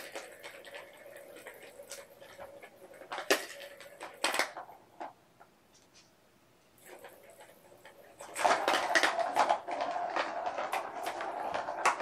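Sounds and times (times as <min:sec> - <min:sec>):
plastic toys clattering and rattling: 0:00.0 - 0:05.2, 0:06.8 - 0:12.0.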